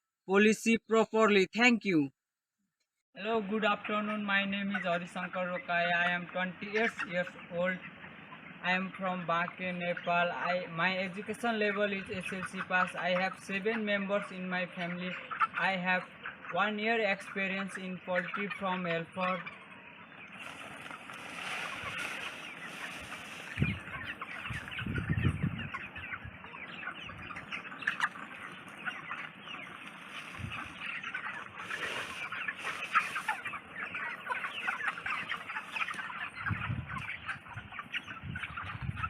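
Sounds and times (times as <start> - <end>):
flock of chickens calling: 3.2 - 39.0.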